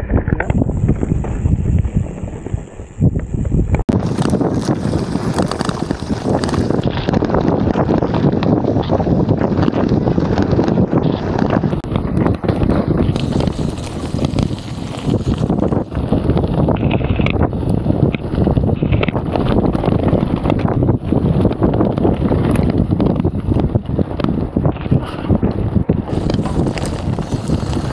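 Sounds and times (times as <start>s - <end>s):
bike knocks and rattles: 0.0s - 27.9s
tyre and trail noise: 0.0s - 27.9s
wind buffeting microphone: 0.0s - 27.9s.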